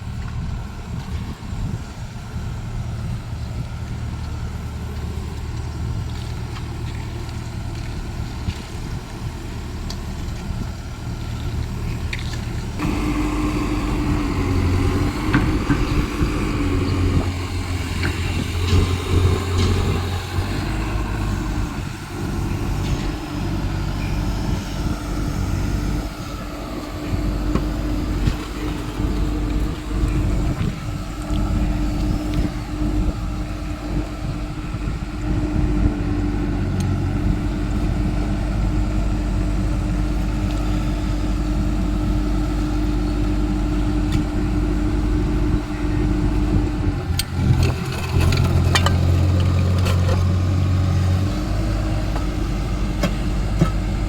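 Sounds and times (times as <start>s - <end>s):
excavator diesel engine running: 0.0s - 54.0s
steady whine: 9.6s - 54.0s.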